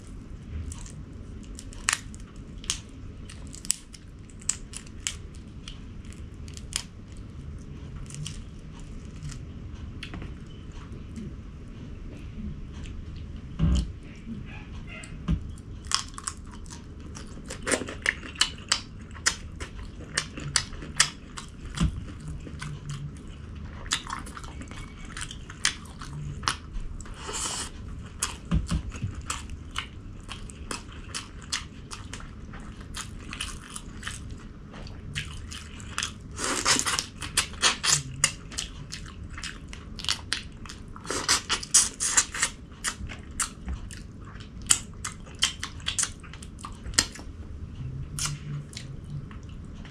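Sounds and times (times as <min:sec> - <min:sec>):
person chewing food: 0:00.0 - 0:11.4, 0:15.0 - 0:49.9.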